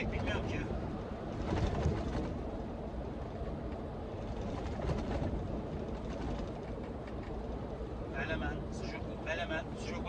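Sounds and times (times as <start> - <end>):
lorry engine rumbling inside cab: 0.0 - 10.0.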